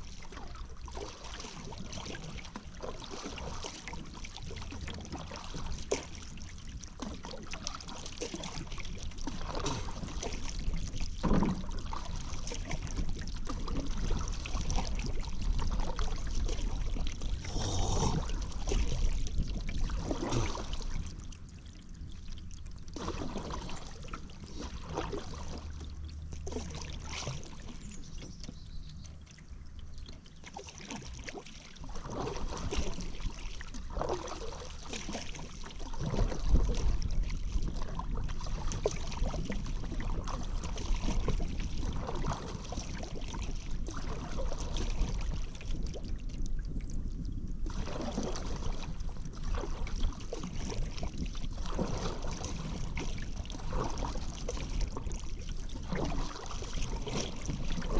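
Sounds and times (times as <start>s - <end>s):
paddle strokes in water: 0.0s - 57.9s
water trickling off paddle: 0.0s - 57.9s.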